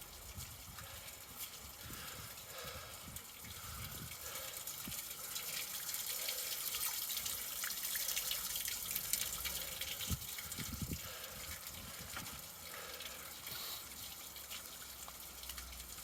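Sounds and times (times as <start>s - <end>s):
water flowing into storm drain: 0.0s - 16.0s.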